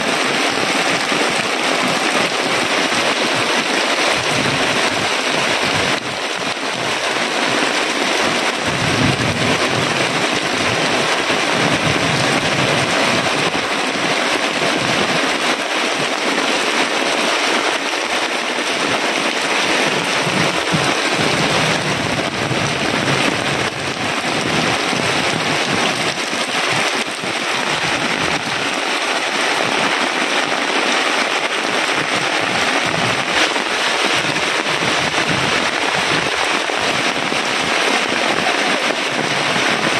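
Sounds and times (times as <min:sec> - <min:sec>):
heavy rain on plastic tarpaulin: 0:00.0 - 0:39.9
rain splashing on wet ground: 0:00.0 - 0:39.9.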